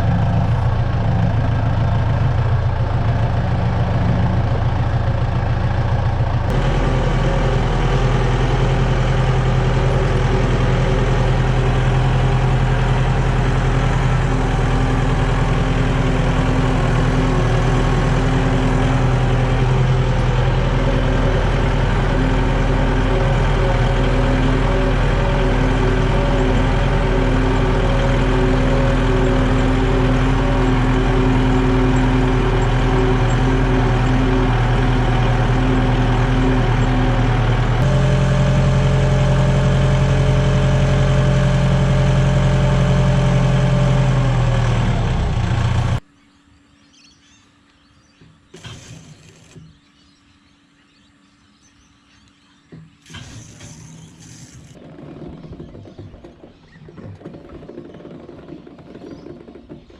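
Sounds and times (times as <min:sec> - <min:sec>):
engine running: 0:00.0 - 0:46.0, 0:48.2 - 0:50.0, 0:52.7 - 0:59.9.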